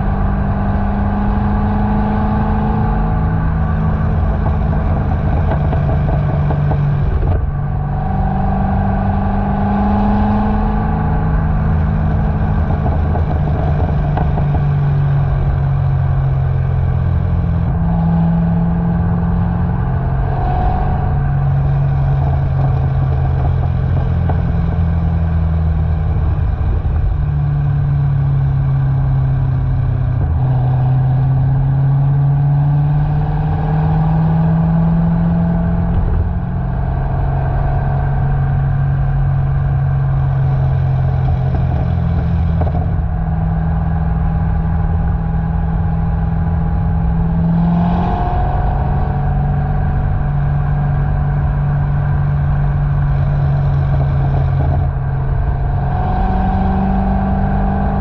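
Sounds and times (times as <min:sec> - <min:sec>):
car exhaust droning: 0:00.0 - 0:58.0.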